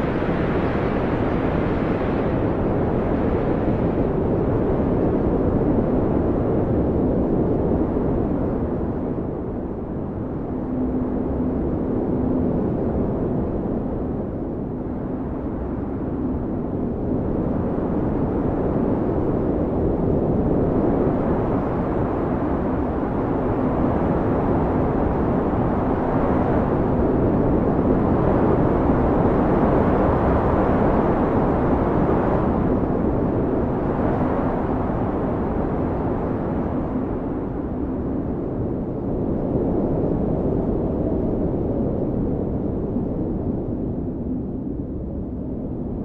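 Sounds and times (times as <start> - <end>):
blizzard wind rushing: 0.0 - 46.0
faint low howling wind: 0.0 - 46.0.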